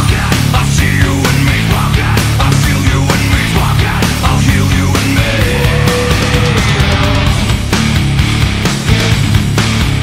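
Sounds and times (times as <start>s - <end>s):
hard-driving rock music: 0.0s - 10.0s
heavy steady drum beat: 0.0s - 10.0s.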